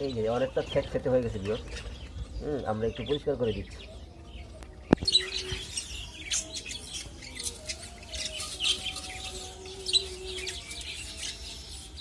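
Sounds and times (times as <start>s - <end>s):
budgerigars chirping and chattering: 0.0s - 12.0s.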